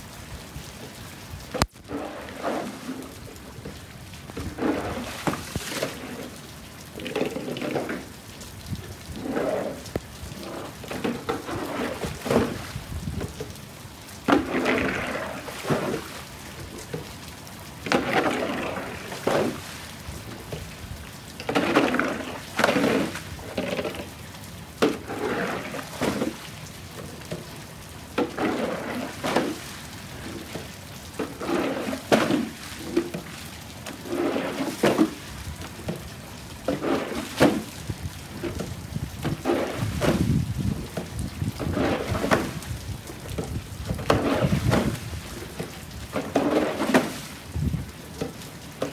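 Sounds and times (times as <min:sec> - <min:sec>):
rain hissing: 0:00.0 - 0:48.9
water sloshing and splashing: 0:00.0 - 0:48.9.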